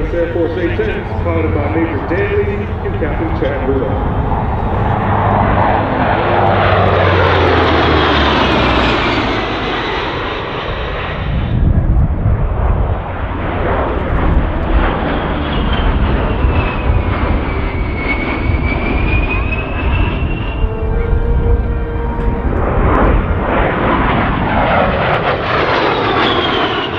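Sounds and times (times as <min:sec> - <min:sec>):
high turbofan whine: 0:00.0 - 0:26.9
jet roar passing overhead: 0:00.0 - 0:26.9.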